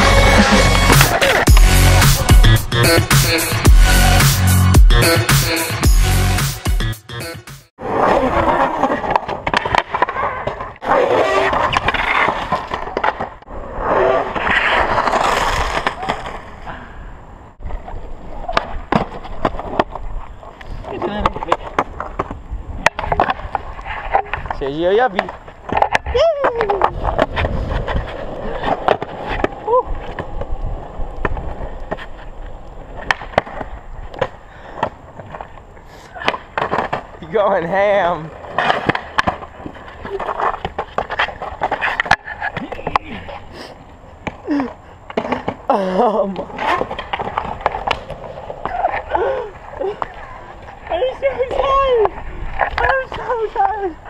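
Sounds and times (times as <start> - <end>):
longboard wheels rolling on asphalt: 7.8 - 54.0.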